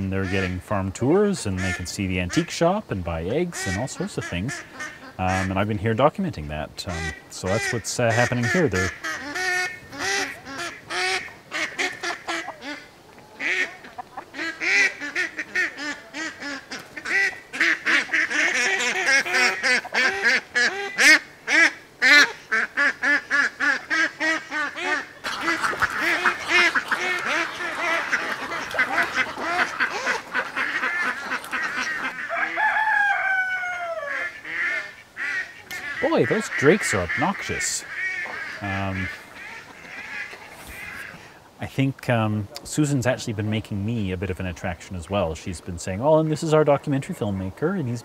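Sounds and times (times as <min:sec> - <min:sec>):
drakes quacking loudly: 0:00.0 - 0:32.9, 0:34.1 - 0:41.6.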